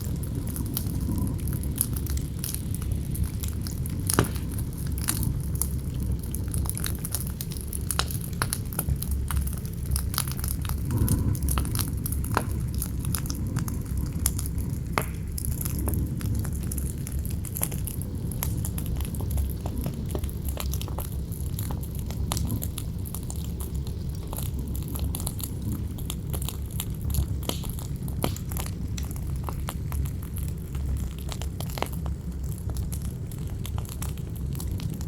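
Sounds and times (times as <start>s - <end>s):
campfire crackling: 0.0s - 35.0s
low rumble of wind: 0.0s - 35.0s.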